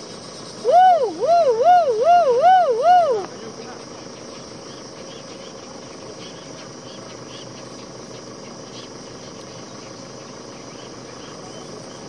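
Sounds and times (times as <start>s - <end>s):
faint steady hum: 0.0s - 12.0s
insects chirping: 0.0s - 12.0s.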